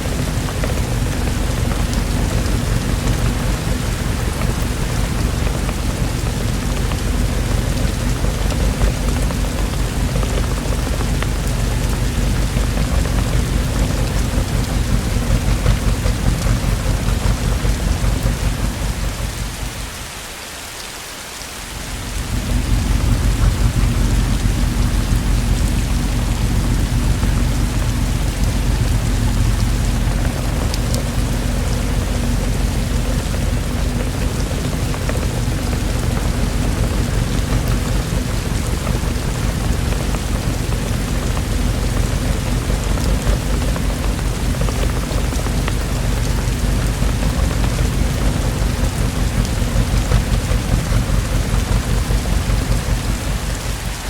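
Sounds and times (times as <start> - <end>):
deep low rumble: 0.0 - 20.1, 21.7 - 54.0
heavy rain hissing: 0.0 - 54.0.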